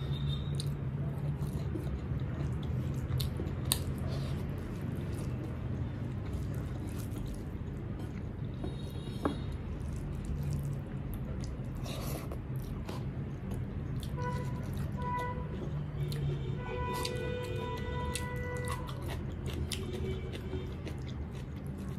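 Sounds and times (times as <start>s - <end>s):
person chewing: 0.1s - 21.9s.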